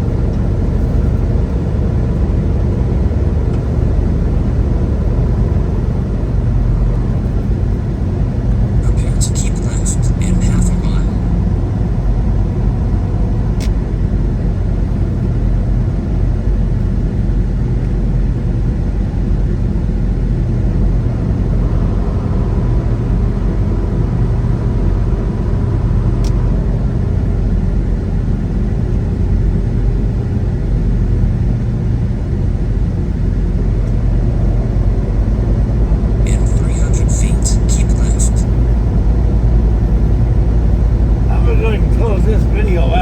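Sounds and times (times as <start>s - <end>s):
truck engine and tyre rumble: 0.0s - 43.0s.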